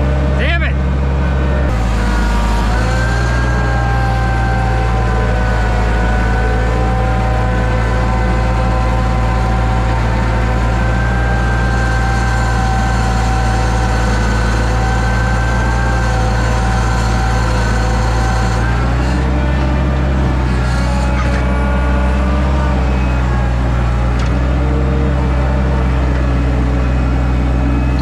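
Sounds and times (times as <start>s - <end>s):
hydraulic pump whine: 0.0s - 28.0s
skid steer engine running: 0.0s - 28.0s.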